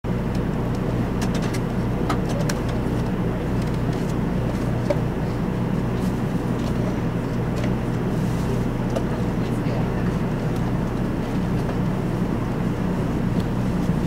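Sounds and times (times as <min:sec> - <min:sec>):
train running equipment drone: 0:00.1 - 0:14.0.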